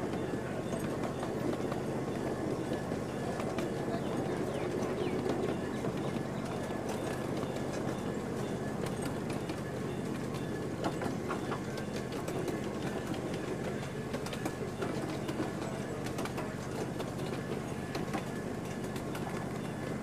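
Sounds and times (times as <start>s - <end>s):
miniature train wheels rumbling: 0.0s - 20.0s.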